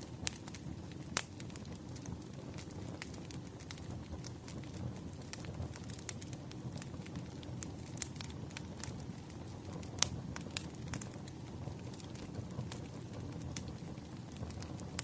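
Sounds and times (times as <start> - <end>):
campfire crackling and popping: 0.0 - 15.0
low rumble of burning wood: 0.0 - 15.0.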